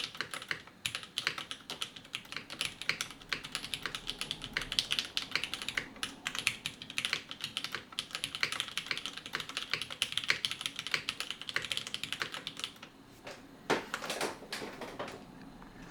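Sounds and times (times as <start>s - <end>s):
typing on mechanical keyboard: 0.0s - 13.0s.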